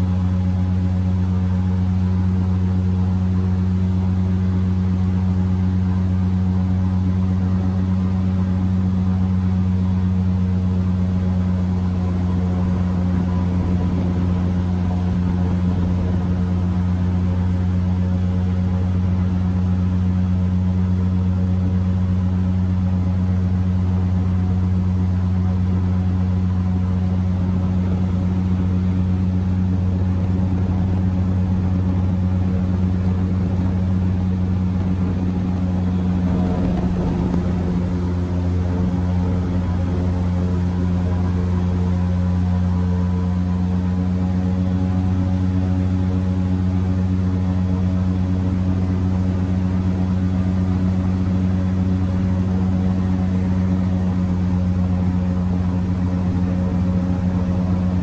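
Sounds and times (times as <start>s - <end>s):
airboat engine droning: 0.0s - 58.0s.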